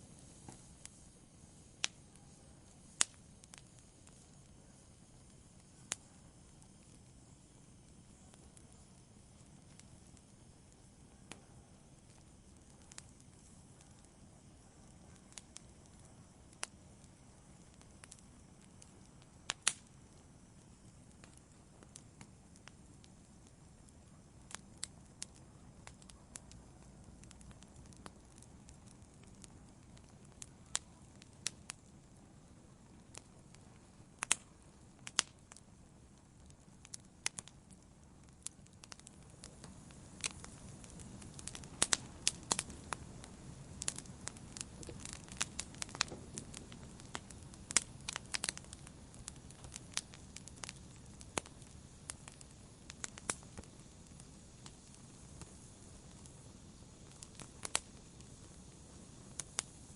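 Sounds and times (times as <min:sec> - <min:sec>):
fire crackling and popping: 0:00.0 - 0:59.9
wood fire hissing: 0:00.0 - 0:59.9.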